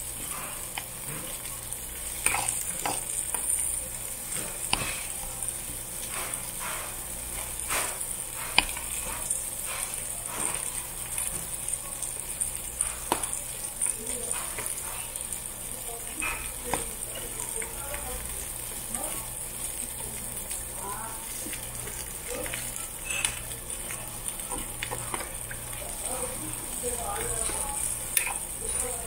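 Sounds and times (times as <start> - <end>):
meat sizzling on a grill: 0.0 - 29.0.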